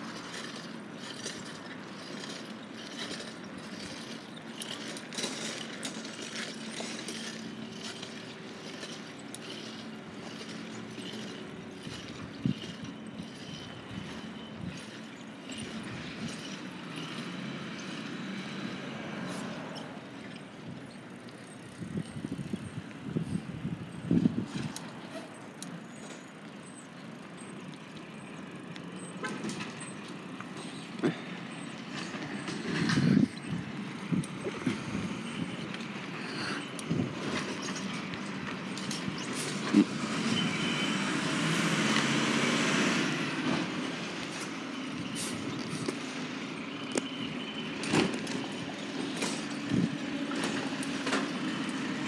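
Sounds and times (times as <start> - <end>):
garbage truck engine humming: 0.0 - 52.0
street noise: 0.0 - 52.0.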